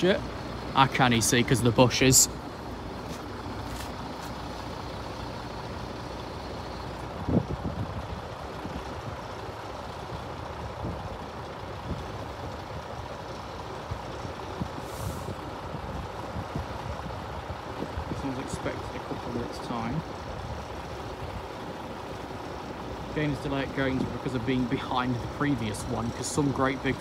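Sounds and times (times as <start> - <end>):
lorry engine running: 0.0 - 27.0
road traffic noise: 0.0 - 27.0.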